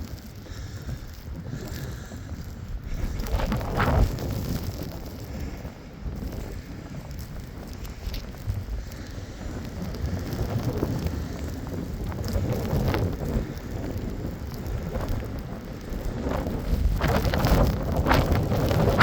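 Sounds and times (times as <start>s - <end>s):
blizzard wind buffeting microphone: 0.0s - 19.0s.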